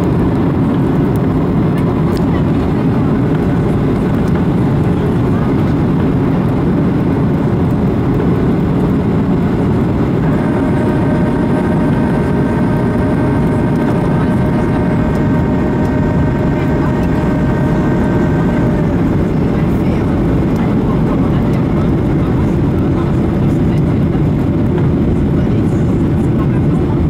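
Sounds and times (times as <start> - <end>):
airflow rush and engine rumble: 0.0 - 27.0
multi-tone whine: 0.0 - 27.0.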